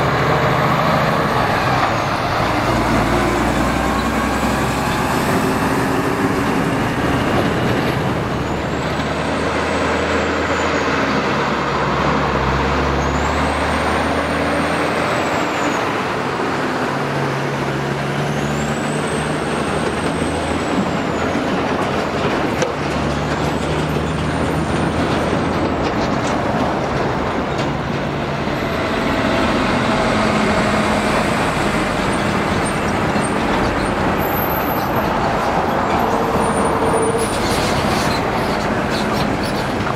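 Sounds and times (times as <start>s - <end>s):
diesel truck engine drone: 0.0s - 39.9s.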